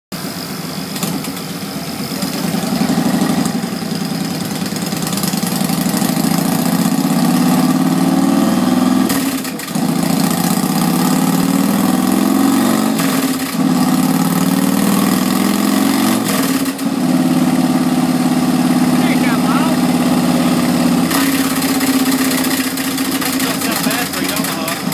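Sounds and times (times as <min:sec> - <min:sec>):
motorcycle engine revving: 0:00.6 - 0:24.9.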